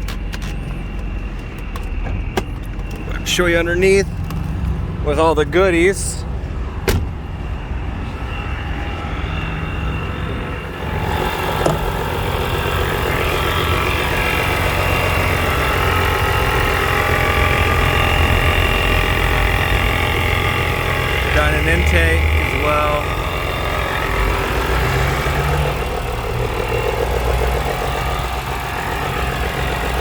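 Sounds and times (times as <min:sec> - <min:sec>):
car engine idling: 0:00.0 - 0:07.6, 0:10.6 - 0:30.0
supercharger whine: 0:00.0 - 0:30.0.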